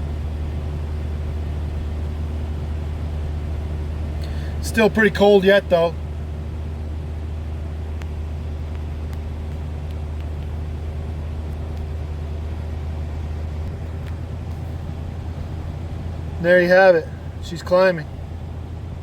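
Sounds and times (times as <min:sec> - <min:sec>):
faint engine ticks: 0:00.0 - 0:19.0
van engine idling: 0:00.0 - 0:19.0.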